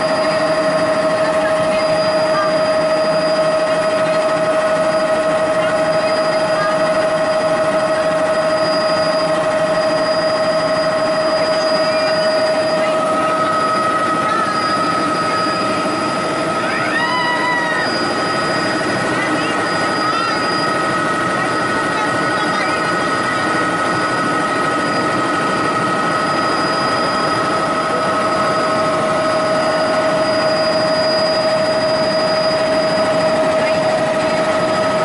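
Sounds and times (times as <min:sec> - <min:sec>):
helicopter engine whine: 0:00.0 - 0:35.0
rotor drone: 0:00.0 - 0:35.0.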